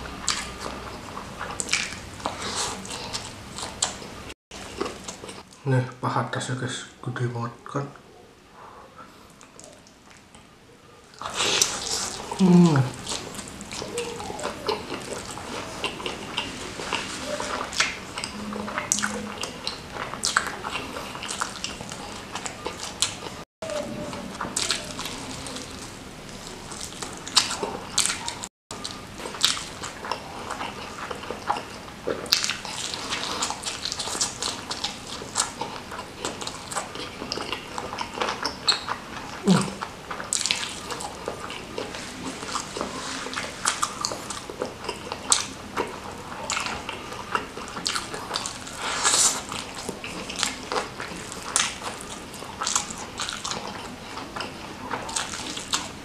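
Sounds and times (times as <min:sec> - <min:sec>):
close chewing and mouth smacks: 0:00.0 - 0:05.6, 0:09.1 - 0:56.0.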